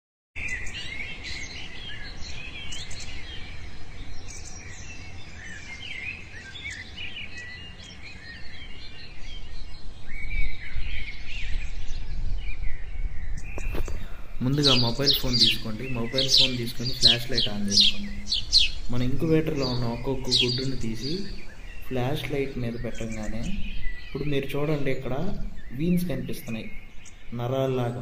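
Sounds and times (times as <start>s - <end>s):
small birds chirping: 0.4s - 28.0s.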